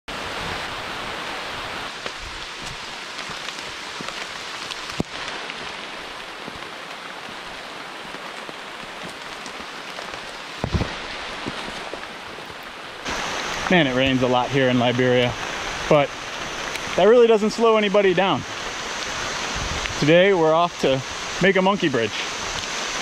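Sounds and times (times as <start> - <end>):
rain falling on foliage: 0.1 - 23.0.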